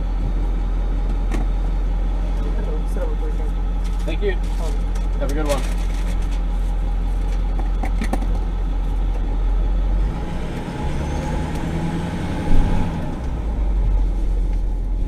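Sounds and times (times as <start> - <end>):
truck engine from inside cab: 0.0 - 15.0.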